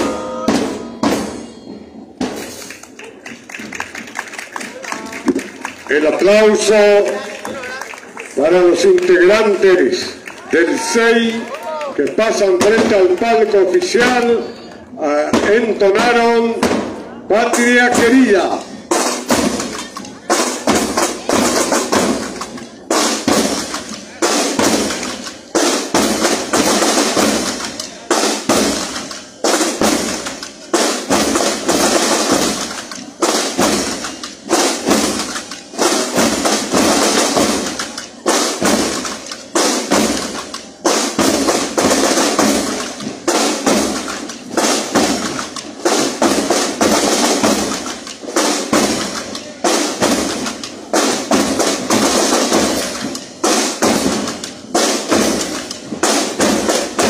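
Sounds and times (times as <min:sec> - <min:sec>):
marching band drums: 0:00.0 - 0:57.0.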